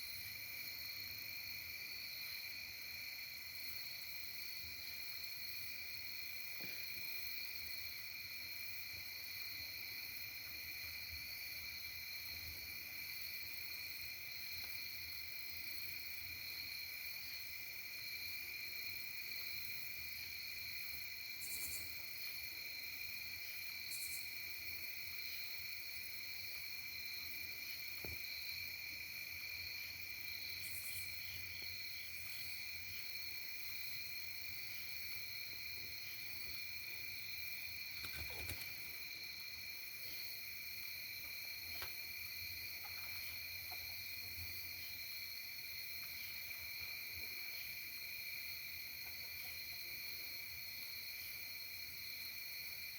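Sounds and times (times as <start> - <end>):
insects trilling: 0.0 - 52.9.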